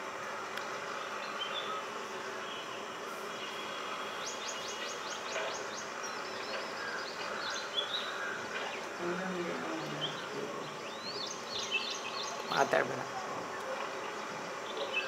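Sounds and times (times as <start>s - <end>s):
steady background noise: 0.0s - 15.0s
small birds calling: 0.6s - 15.0s.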